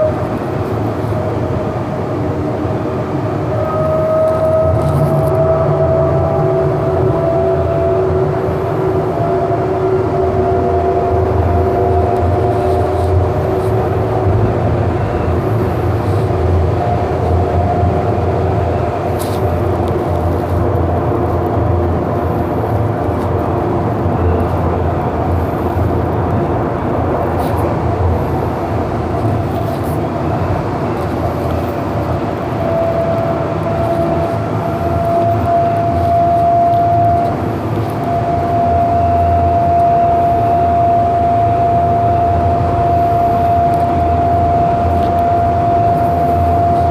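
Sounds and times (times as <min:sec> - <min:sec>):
electric drive whine: 0:00.0 - 0:46.9
wheels rumbling on rail: 0:00.0 - 0:46.9.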